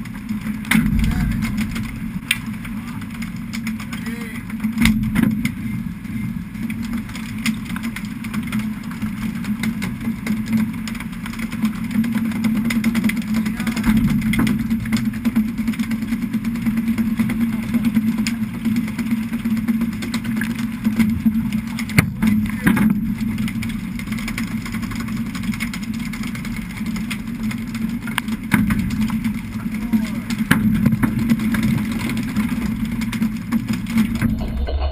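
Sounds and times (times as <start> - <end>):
boat engine hum: 0.0 - 34.9.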